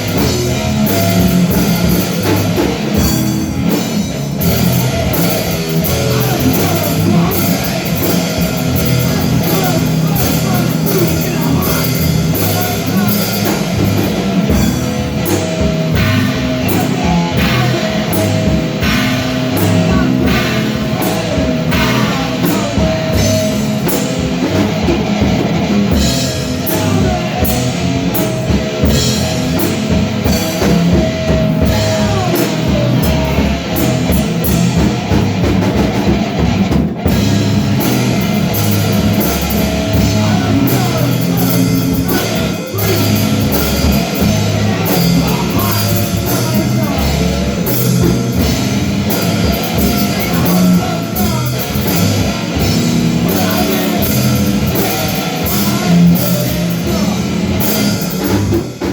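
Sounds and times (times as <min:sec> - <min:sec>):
loud rock music: 0:00.0 - 0:58.9.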